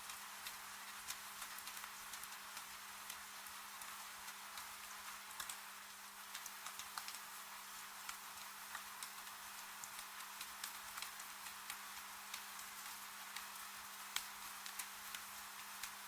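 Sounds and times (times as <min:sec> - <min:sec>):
rain hiss: 0:00.0 - 0:16.0
raindrops ticking close by: 0:00.0 - 0:16.0.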